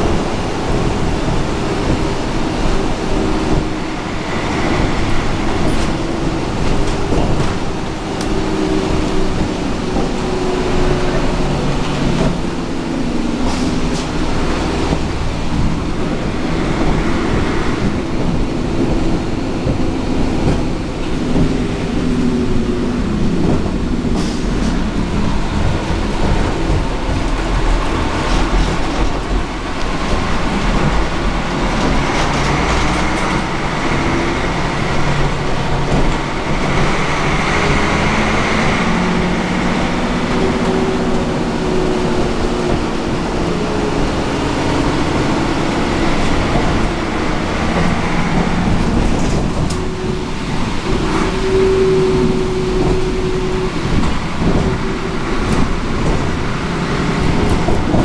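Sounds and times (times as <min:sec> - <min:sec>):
bus diesel engine: 0:00.0 - 0:58.0
road noise: 0:00.0 - 0:58.0
bodywork rattles and clicks: 0:00.1 - 0:58.0.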